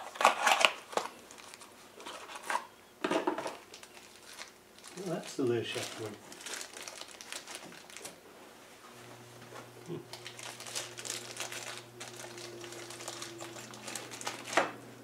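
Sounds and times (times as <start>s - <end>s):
wrappers crinkling and rustling: 0.0s - 2.7s, 3.4s - 8.2s, 10.1s - 14.8s.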